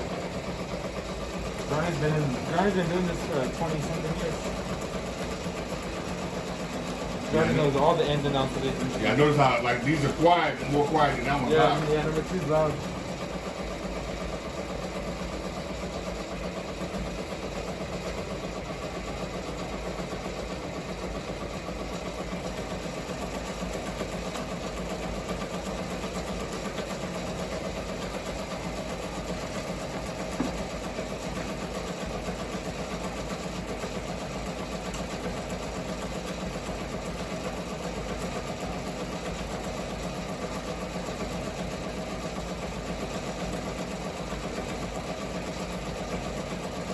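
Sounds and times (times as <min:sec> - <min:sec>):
embroidery machine stitching: 0:00.0 - 0:46.9.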